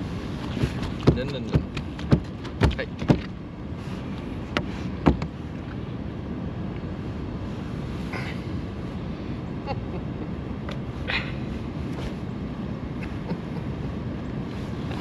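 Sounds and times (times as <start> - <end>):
water noise around boat: 0.0 - 15.0
wind: 0.0 - 15.0.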